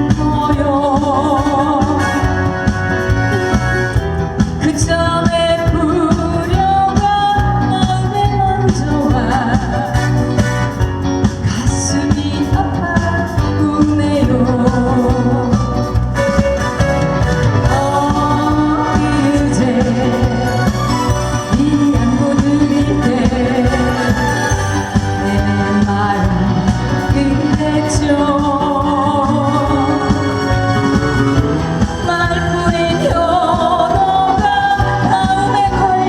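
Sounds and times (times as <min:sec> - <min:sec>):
person singing: 0:00.0 - 0:03.6, 0:04.6 - 0:10.8, 0:11.4 - 0:36.0
backing track with steady beat: 0:00.0 - 0:36.0.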